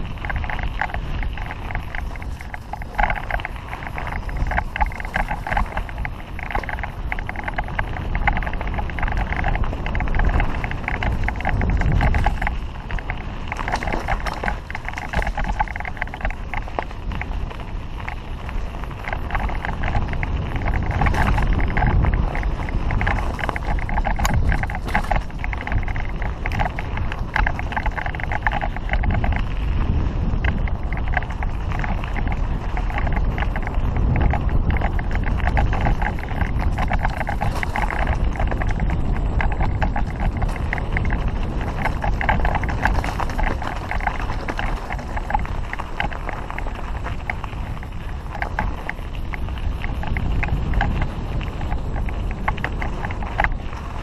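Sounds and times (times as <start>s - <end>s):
bike rattling on rough ground: 0.0s - 54.0s
wind buffeting microphone: 0.0s - 54.0s.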